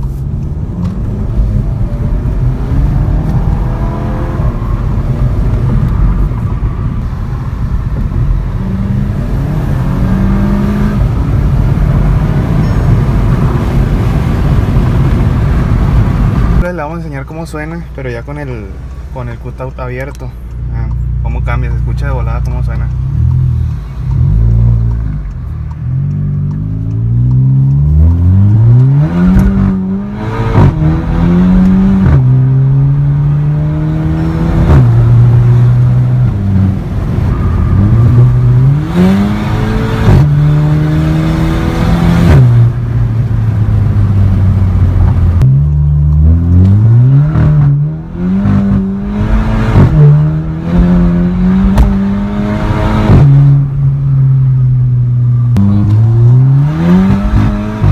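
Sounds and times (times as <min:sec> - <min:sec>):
car engine accelerating: 0:00.0 - 0:57.9
exhaust crack: 0:00.0 - 0:57.9.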